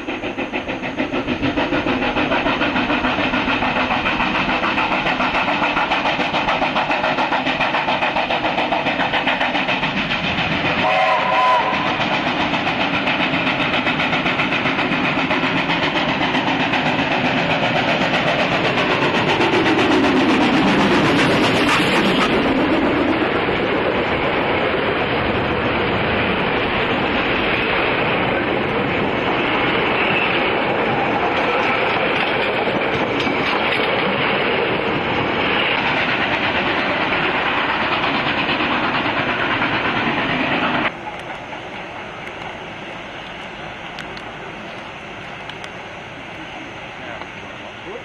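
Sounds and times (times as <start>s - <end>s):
steam locomotive passing: 0.0s - 48.0s
train wheels clacking on rails: 0.0s - 48.0s.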